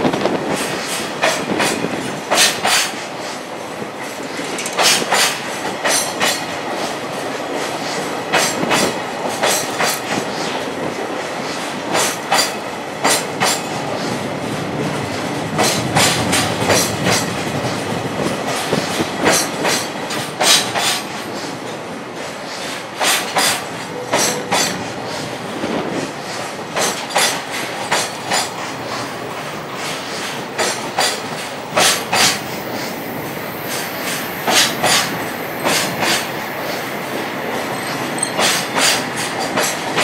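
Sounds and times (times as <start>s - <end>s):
train wheels rumbling on rails: 0.0s - 40.0s
wheels clacking over rail joints: 0.0s - 40.0s.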